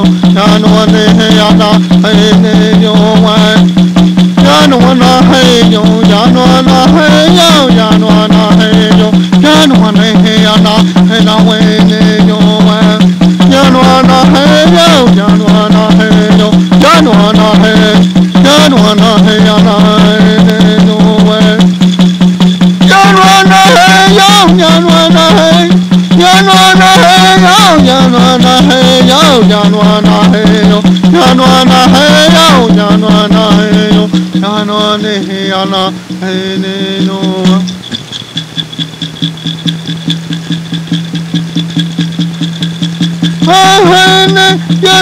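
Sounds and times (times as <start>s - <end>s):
background music with drone and beat: 6.2s - 45.0s.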